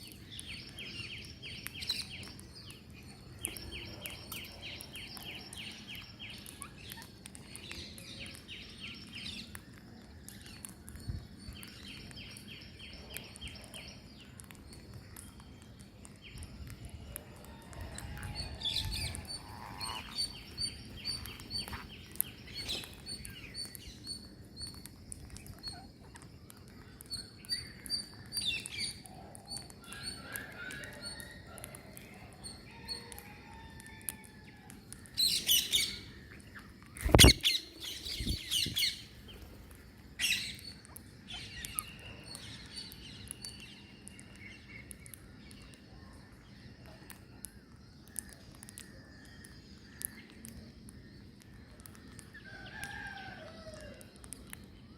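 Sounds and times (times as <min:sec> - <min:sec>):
birds chirping: 0:00.0 - 0:34.0, 0:34.7 - 0:54.8.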